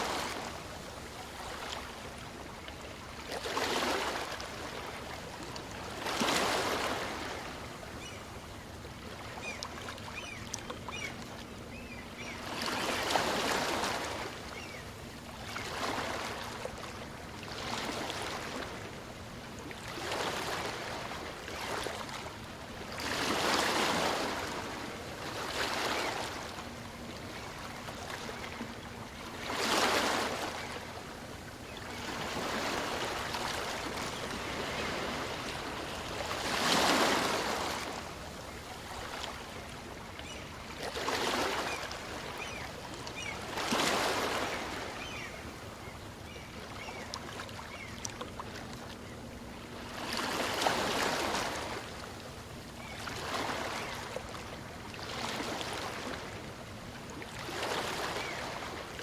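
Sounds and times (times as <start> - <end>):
small waves breaking on beach: 0.0 - 8.2, 12.2 - 19.1, 19.7 - 59.0.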